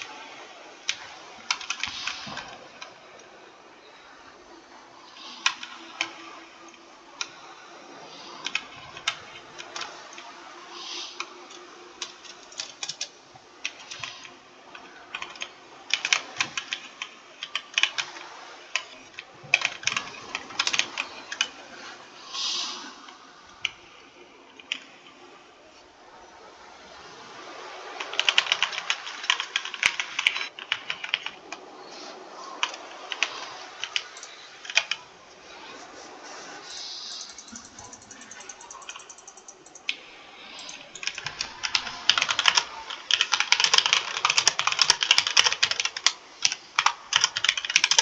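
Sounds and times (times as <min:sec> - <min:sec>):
keyboard typing: 0:00.0 - 0:26.2, 0:26.9 - 0:48.0.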